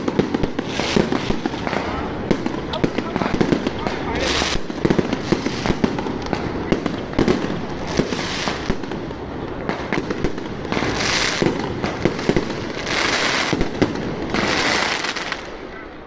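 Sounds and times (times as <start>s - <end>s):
firecrackers cracking and popping: 0.0s - 15.6s
fireworks hissing: 0.0s - 15.6s.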